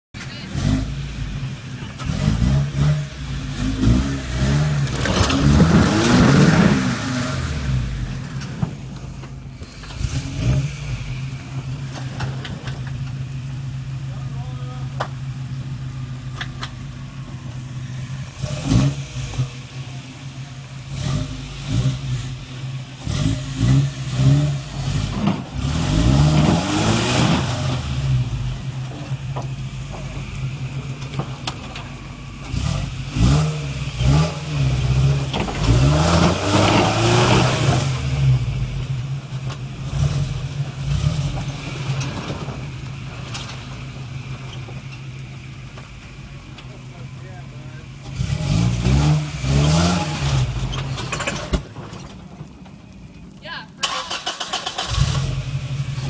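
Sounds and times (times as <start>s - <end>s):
truck engine idling and revving: 0.1s - 56.0s.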